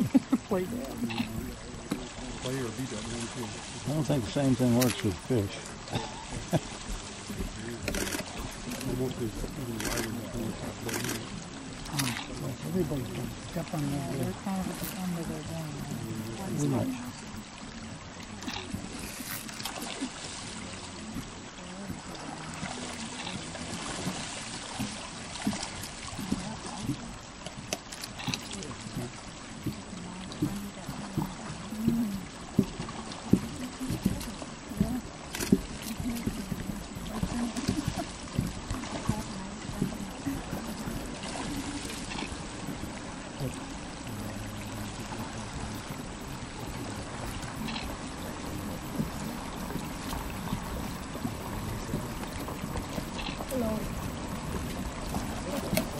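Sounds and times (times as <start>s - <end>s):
creek running over gravel: 0.0s - 55.9s.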